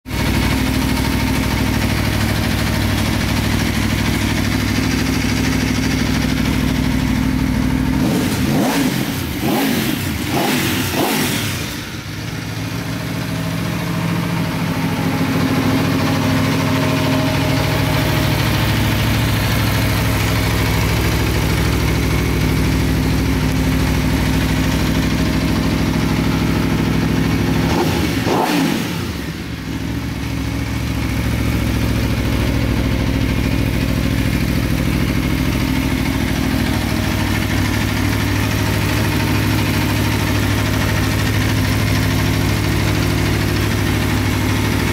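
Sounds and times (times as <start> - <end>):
motorcycle engine idling: 0.1 - 44.9
motorcycle engine revving: 0.1 - 44.9.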